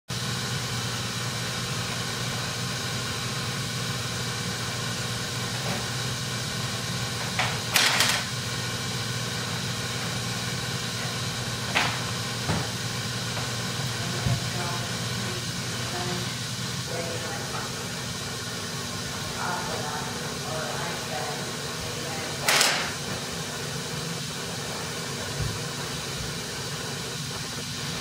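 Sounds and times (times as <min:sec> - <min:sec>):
steady mechanical hum: 0:00.1 - 0:28.0.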